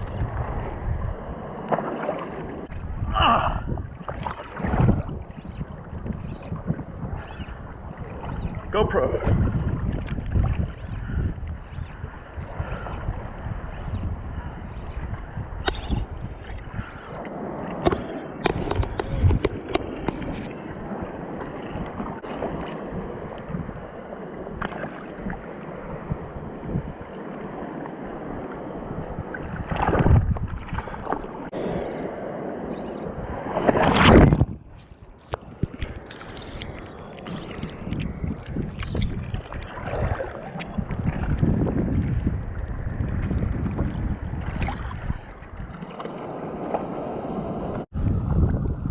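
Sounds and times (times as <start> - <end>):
waves washing: 0.0 - 48.4
wind buffeting microphone: 0.0 - 48.9.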